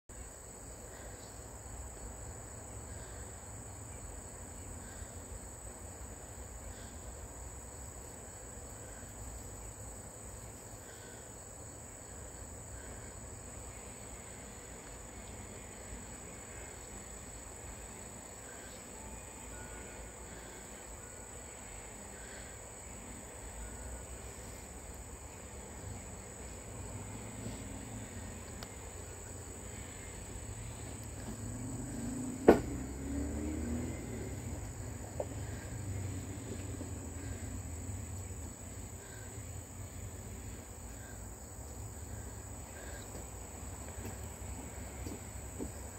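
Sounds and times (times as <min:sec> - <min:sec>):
insects trilling: 0:00.1 - 0:45.9.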